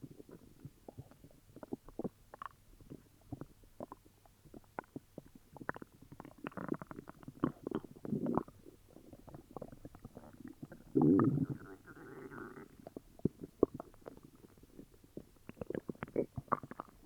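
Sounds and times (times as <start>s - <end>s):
stomach gurgling: 0.0s - 17.0s.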